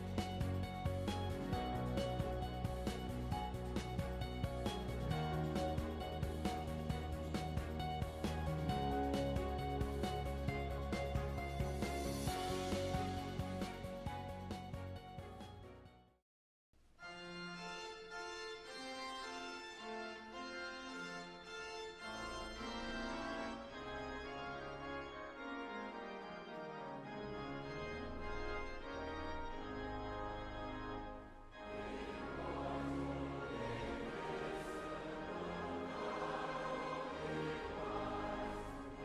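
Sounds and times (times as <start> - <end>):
organ sustained chords: 0.0 - 15.8, 17.0 - 39.0.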